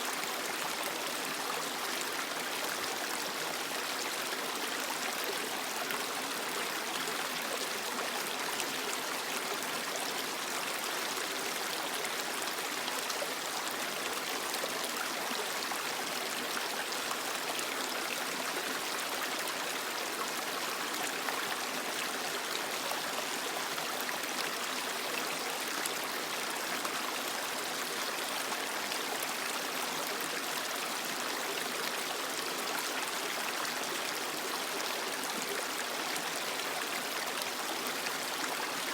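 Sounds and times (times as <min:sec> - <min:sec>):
creek water flowing over rocks: 0:00.0 - 0:38.9.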